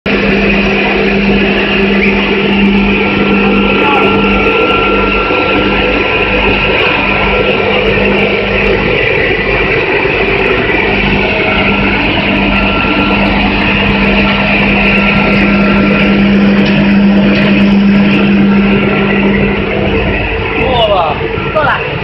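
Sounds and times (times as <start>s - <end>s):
constant low hum: 0.1s - 22.0s
production line machinery running: 0.1s - 22.0s.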